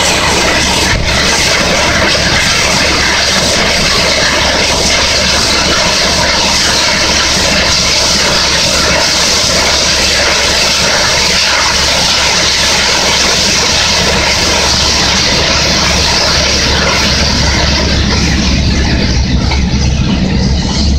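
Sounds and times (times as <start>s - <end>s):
drilling rig roaring: 0.0s - 20.9s
high rush of air: 0.0s - 20.9s.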